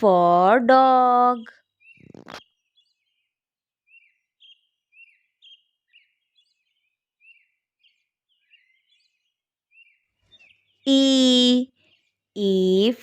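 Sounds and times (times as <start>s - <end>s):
bird chirping: 0.2s - 13.0s.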